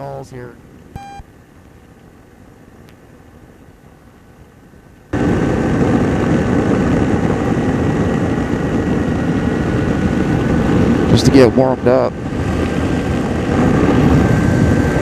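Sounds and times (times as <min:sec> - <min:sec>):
rushing wind: 0:00.0 - 0:15.0
ultralight aircraft engine and propeller: 0:00.0 - 0:15.0.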